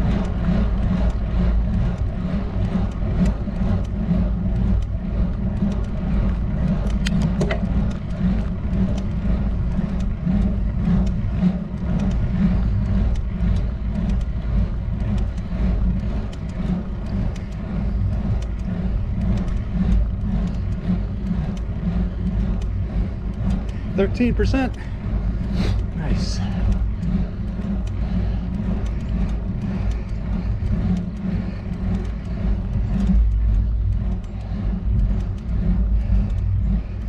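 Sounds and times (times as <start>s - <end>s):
bike rumbling on asphalt: 0.0s - 37.0s
light clicks: 0.0s - 37.0s.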